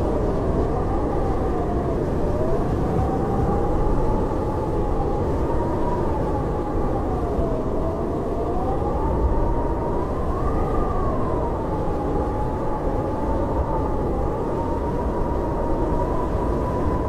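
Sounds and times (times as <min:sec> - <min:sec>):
howling blizzard wind: 0:00.0 - 0:17.0.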